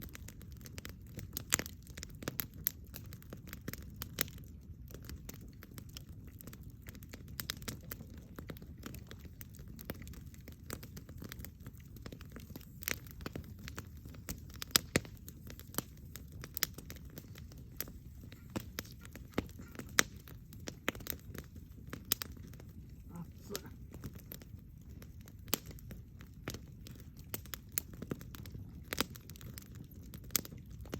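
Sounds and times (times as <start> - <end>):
low fire rumble: 0.0 - 30.9
wood fire crackling and popping: 0.0 - 30.9.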